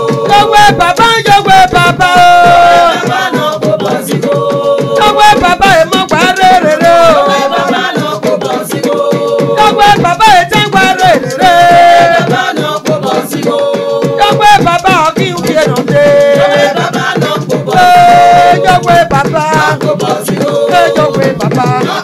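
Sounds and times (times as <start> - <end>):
busy percussion: 0.0 - 22.0
woman singing: 0.0 - 22.0.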